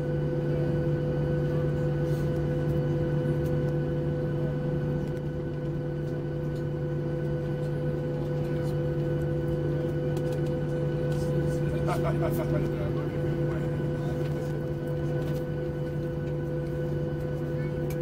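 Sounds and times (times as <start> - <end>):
airplane cabin hum: 0.0 - 18.0.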